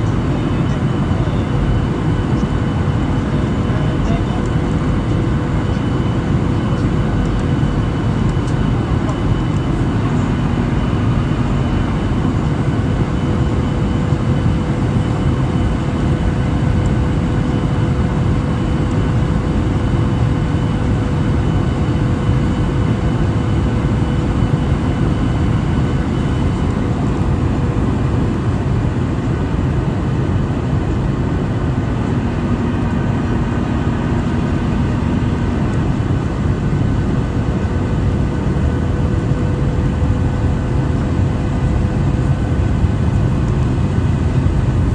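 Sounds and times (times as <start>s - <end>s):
faint constant whine: 0.0s - 44.9s
jet engines rushing: 0.0s - 44.9s.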